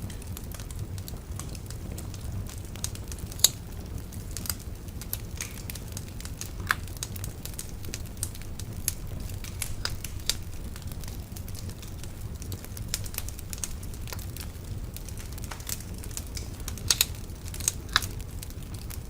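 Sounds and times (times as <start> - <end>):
steady low rumble: 0.0 - 19.0
wood bonfire crackling: 0.0 - 19.0.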